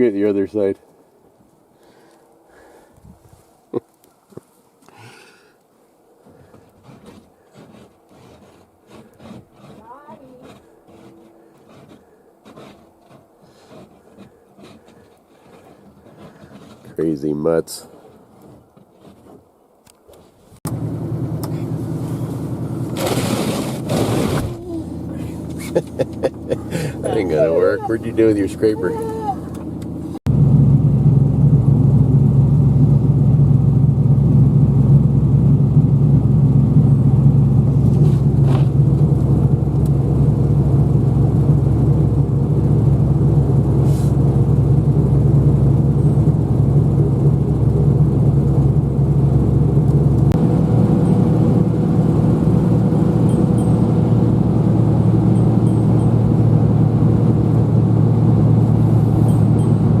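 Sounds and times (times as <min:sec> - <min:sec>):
car engine and road rumble: 0:00.0 - 1:00.0.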